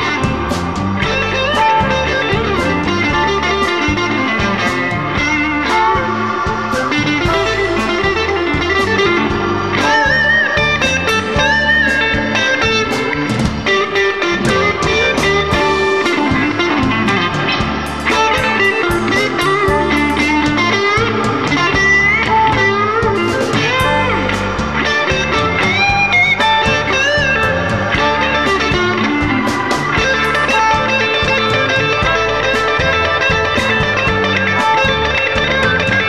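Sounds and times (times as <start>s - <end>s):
steady drum beat with cymbals: 0.0s - 13.8s, 14.4s - 36.0s
electric guitar bending notes: 0.0s - 36.0s
walking bass line: 0.0s - 36.0s.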